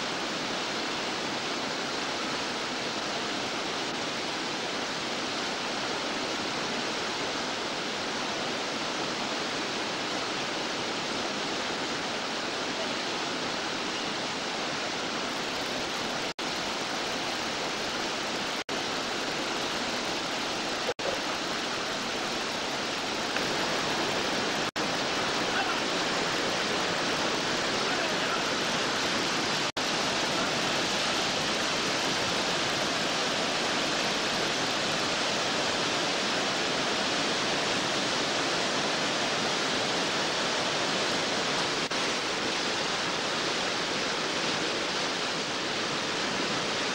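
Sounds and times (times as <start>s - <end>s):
whitewater rapids rushing: 0.0s - 46.9s.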